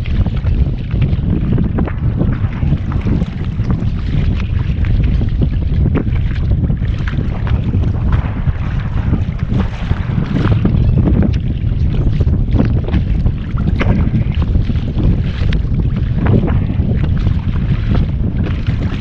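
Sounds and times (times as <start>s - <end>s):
water splashing against boat hull: 0.0s - 19.0s
wind buffeting microphone: 0.0s - 19.0s.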